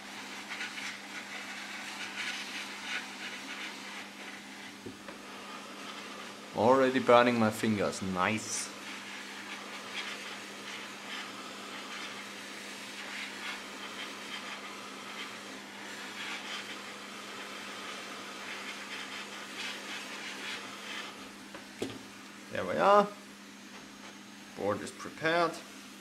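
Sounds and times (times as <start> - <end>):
hot air gun hissing: 0.0 - 23.1.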